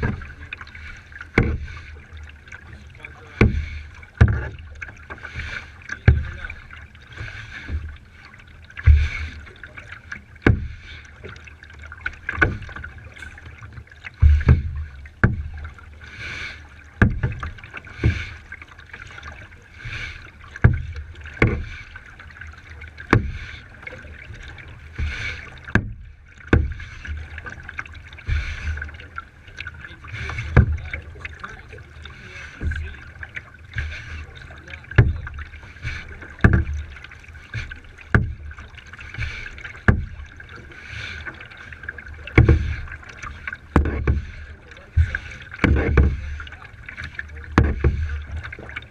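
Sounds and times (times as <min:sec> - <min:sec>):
paddle knock: 0:00.0 - 0:48.9
paddle splashing in water: 0:00.0 - 0:48.9.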